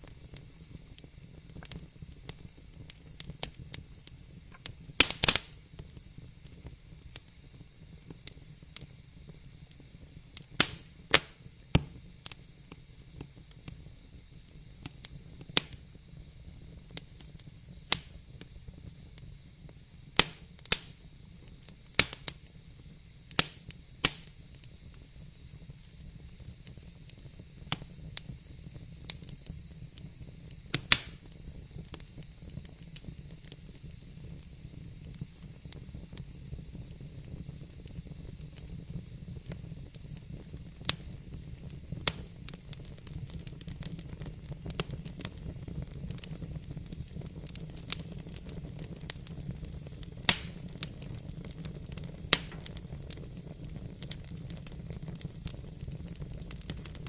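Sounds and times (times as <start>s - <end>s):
low fire rumble and hiss: 0.0s - 57.0s
wood fire crackling and popping: 0.0s - 57.0s.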